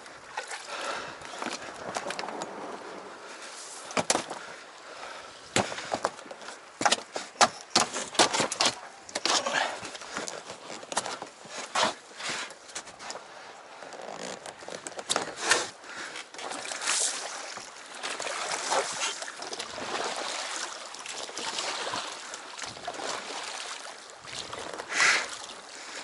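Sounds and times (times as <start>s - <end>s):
knocks and clatters of gear and oar: 0.0s - 4.8s, 5.4s - 26.0s.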